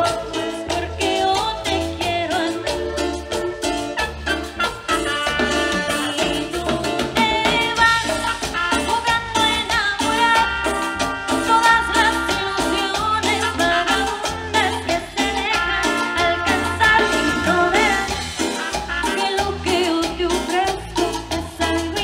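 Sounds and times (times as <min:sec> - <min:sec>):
latin dance band music: 0:00.0 - 0:22.0.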